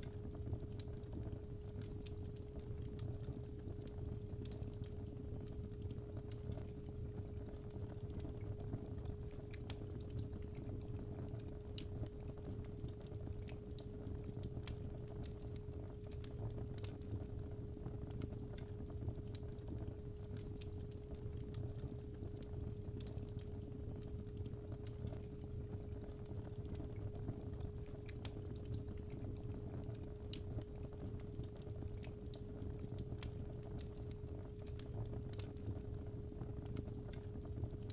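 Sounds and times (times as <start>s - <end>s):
fire crackling and popping: 0.0s - 37.9s.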